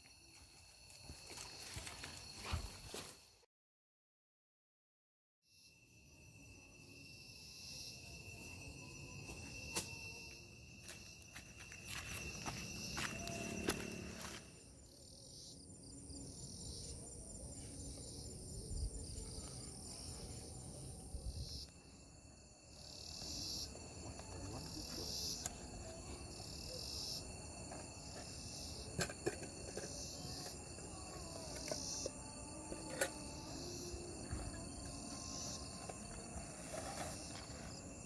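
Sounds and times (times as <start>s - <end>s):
crickets trilling: 0.0s - 3.3s, 5.5s - 38.0s.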